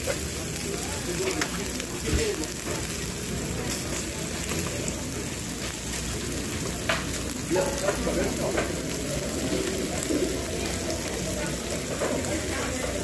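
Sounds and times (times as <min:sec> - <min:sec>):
meat sizzling on a griddle: 0:00.0 - 0:13.0.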